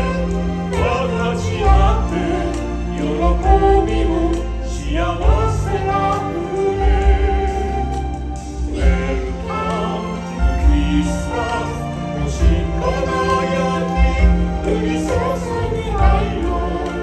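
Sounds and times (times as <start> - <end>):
voices singing with band: 0.0 - 17.0.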